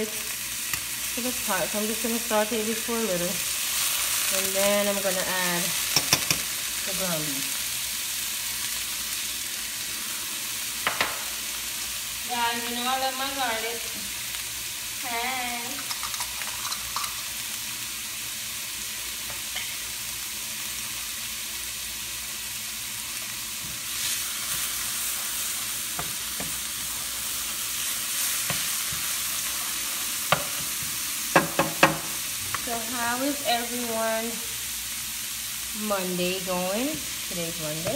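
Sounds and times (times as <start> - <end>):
garlic sizzling in hot oil: 0.0 - 37.9.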